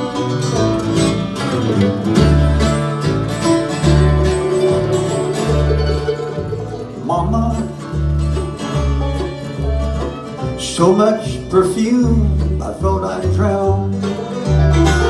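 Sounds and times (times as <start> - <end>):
acoustic guitar: 0.0 - 15.0
banjo picking: 0.0 - 15.0
fiddle: 0.0 - 15.0
mandolin: 0.0 - 15.0
upright bass notes: 0.0 - 15.0.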